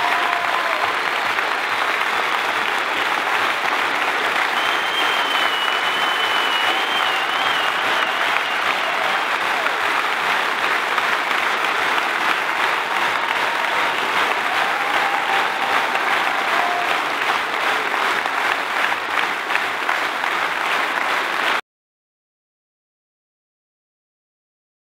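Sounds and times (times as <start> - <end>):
large audience applauding: 0.0 - 21.6.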